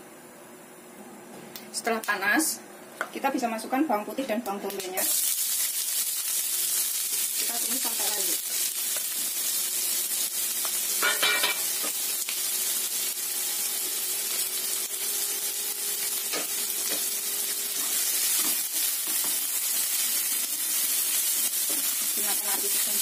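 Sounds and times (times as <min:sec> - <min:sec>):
onion sizzling in hot oil: 0:04.2 - 0:23.0.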